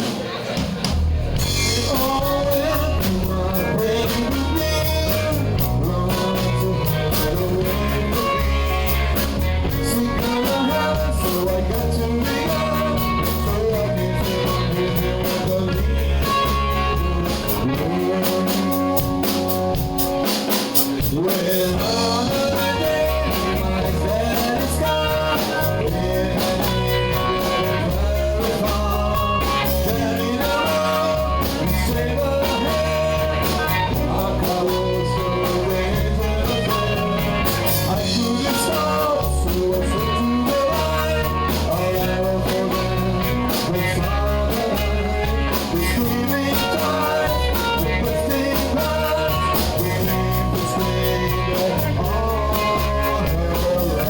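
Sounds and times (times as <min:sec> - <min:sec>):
bass guitar: 0:00.0 - 0:54.0
drum kit: 0:00.0 - 0:54.0
electric guitar: 0:00.0 - 0:54.0
person singing: 0:01.4 - 0:54.0.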